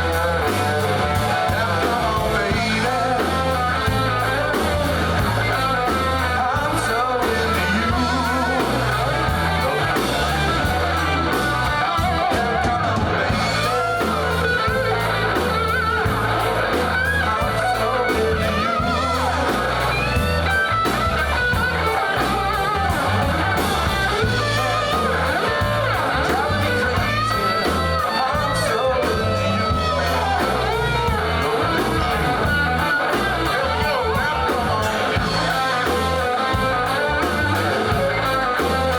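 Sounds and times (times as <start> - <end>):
radio playing a song: 0.0 - 38.9.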